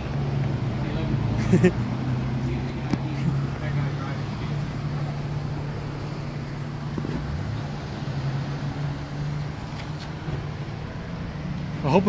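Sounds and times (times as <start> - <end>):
car engine idling: 0.0 - 12.0
faint street traffic: 0.0 - 12.0.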